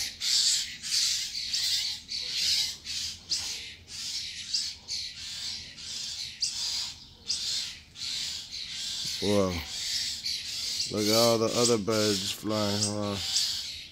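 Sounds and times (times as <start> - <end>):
birds squawking harshly: 0.0 - 13.9.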